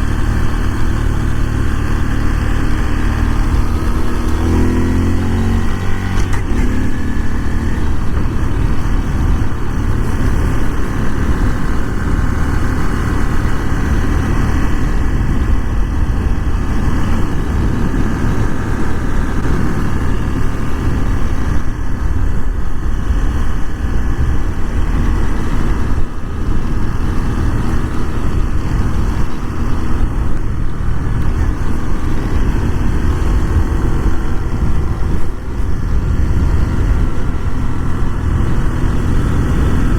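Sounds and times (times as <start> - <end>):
small motorcycle engine running: 0.0 - 39.9
wind on microphone: 0.0 - 39.9.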